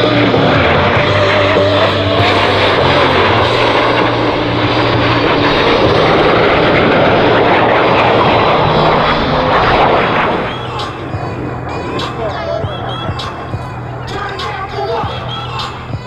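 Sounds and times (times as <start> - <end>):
jets flying past roaring: 0.0 - 16.0.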